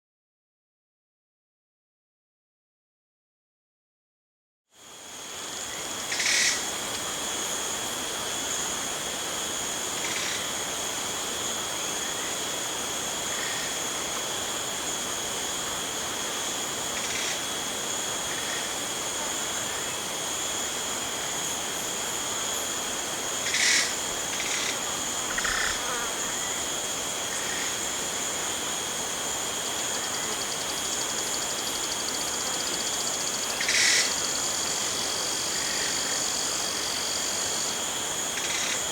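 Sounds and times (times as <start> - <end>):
insect trill: 4.8 - 38.9.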